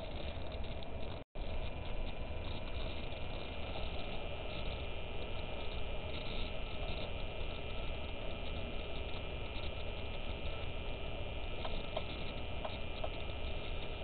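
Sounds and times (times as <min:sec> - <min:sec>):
microphone hiss and electrical hum: 0:00.0 - 0:14.0.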